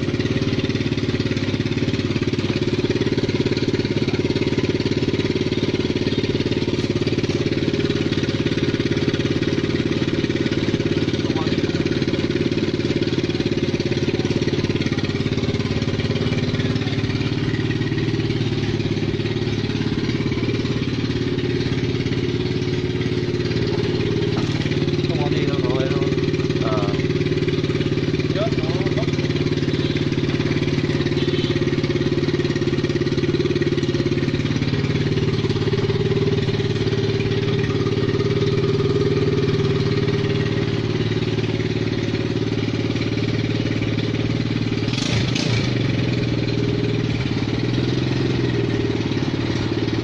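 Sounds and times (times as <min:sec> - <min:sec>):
atv engine idling: 0:00.0 - 0:50.0.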